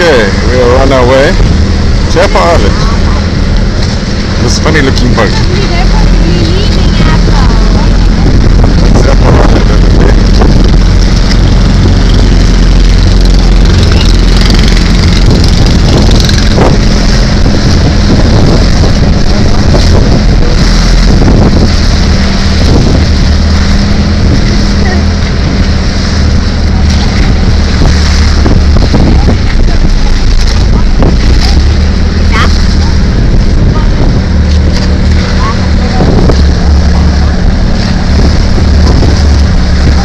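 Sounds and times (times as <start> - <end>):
boat engine running: 0.0 - 40.0
wind buffeting microphone: 0.0 - 40.0.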